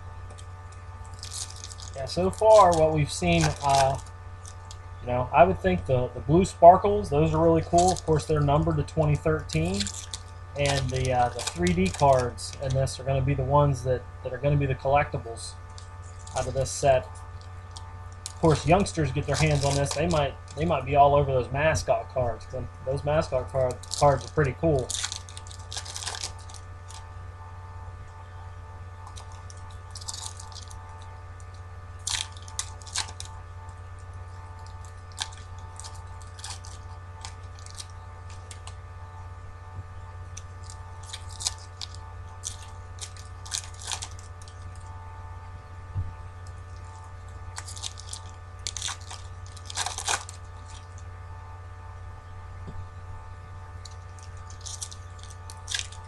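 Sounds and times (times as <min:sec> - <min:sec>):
electrical hum: 0:00.0 - 0:56.0
foil card packs crinkling: 0:00.2 - 0:27.2, 0:28.9 - 0:39.0, 0:39.8 - 0:45.0, 0:46.2 - 0:51.2, 0:53.6 - 0:56.0.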